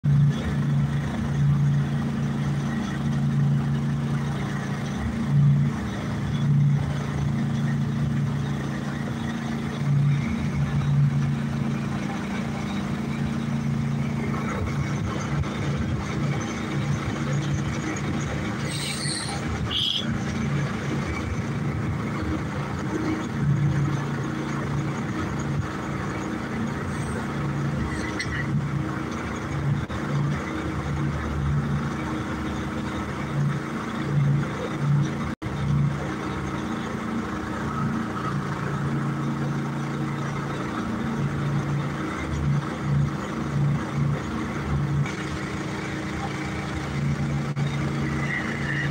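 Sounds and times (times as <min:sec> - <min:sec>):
boat engine humming: 0:00.0 - 0:48.9.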